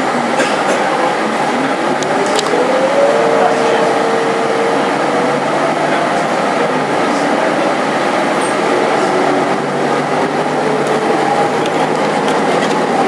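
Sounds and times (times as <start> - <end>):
bus engine drone: 0.0 - 13.0
road rumble: 0.0 - 13.0
faint drifting tones: 1.1 - 13.0.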